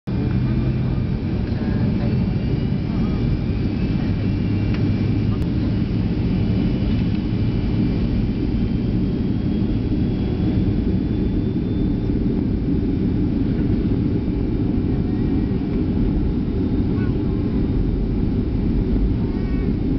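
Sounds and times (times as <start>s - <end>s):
high engine whine: 0.1s - 19.9s
jet engines rumbling: 0.1s - 19.9s.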